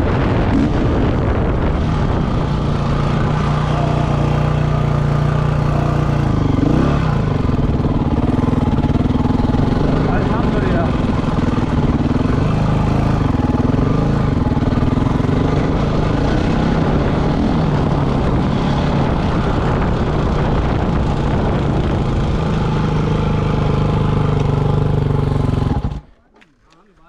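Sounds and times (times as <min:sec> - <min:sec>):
motorcycle engine running: 0:00.0 - 0:26.2.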